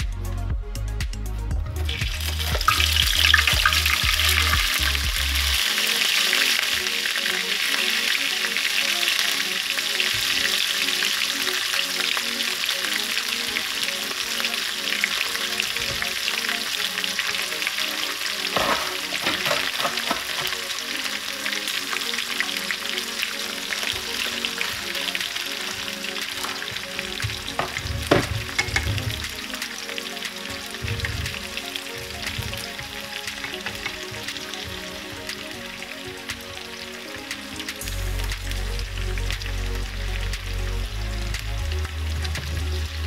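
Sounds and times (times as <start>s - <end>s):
onions sizzling in hot oil: 1.9s - 38.4s.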